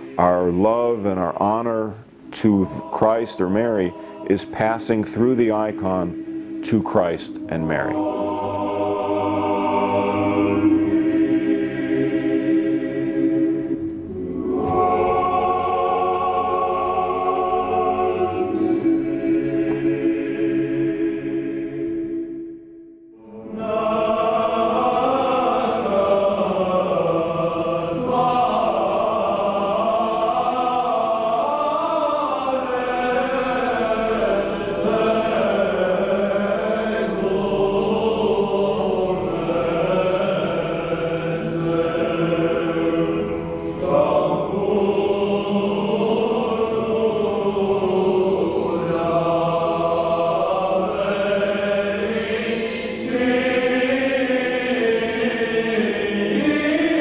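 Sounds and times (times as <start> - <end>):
choir chanting a hymn: 0.0 - 57.0.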